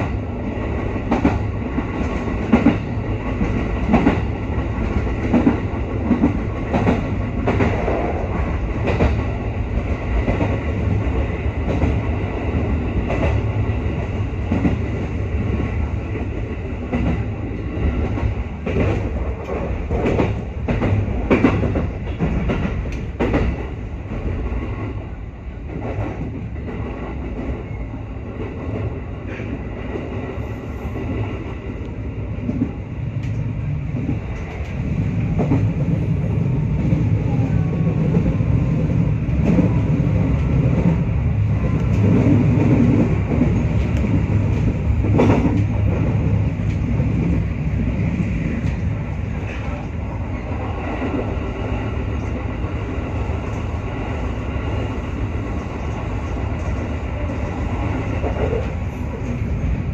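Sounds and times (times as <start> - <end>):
rail clicks: 0.0 - 59.9
train wheels rumbling on rails: 0.0 - 59.9.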